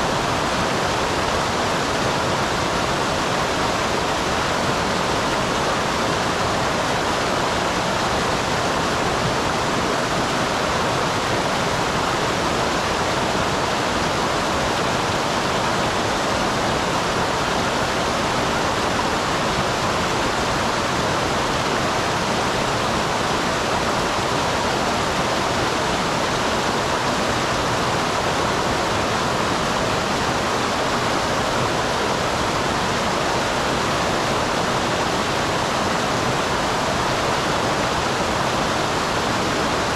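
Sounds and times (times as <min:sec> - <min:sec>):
small waterfall pouring and splashing: 0:00.0 - 0:39.9.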